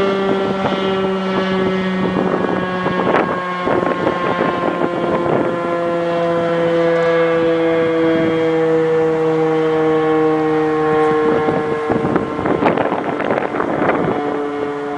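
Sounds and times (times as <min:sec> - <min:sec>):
outdoor warning sirens: 0:00.0 - 0:14.9
wind on microphone: 0:00.0 - 0:14.9.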